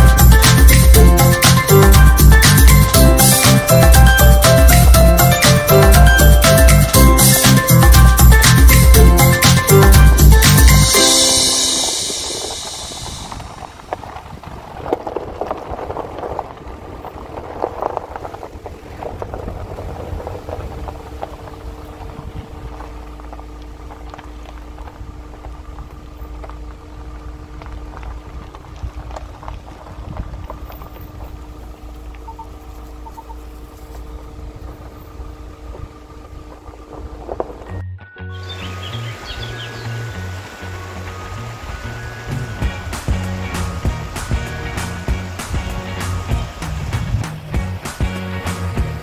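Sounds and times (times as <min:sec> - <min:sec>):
low engine rumble: 0:00.0 - 0:49.0
tyres crunching over gravel: 0:00.0 - 0:49.0.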